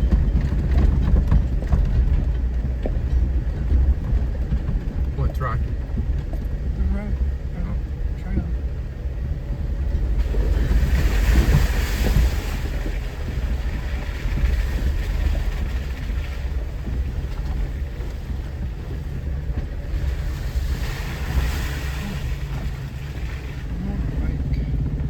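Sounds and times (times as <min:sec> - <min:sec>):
engine and tyres rumbling: 0:00.0 - 0:25.0
wind buffeting microphone: 0:00.0 - 0:25.0.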